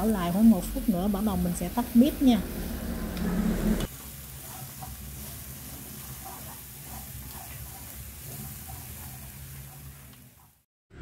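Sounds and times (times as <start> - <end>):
food sizzling in a pan: 0.0 - 10.6.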